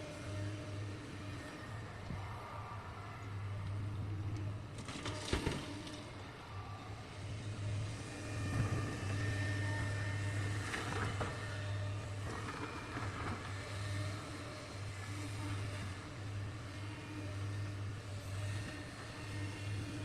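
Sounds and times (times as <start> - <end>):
diesel engine drone: 0.0 - 20.0.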